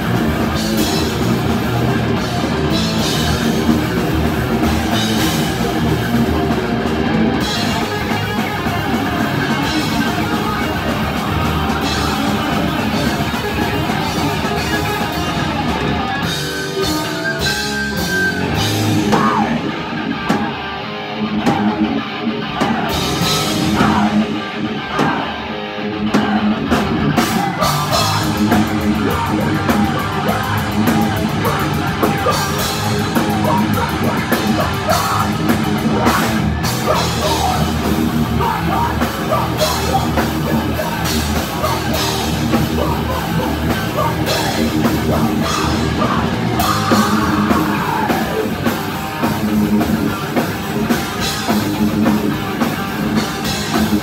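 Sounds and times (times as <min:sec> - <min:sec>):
drum kit with rapid cymbal hits: 0:00.0 - 0:20.6, 0:22.6 - 0:25.4, 0:26.0 - 0:54.0
bass guitar: 0:00.0 - 0:54.0
distorted electric guitars: 0:00.0 - 0:54.0.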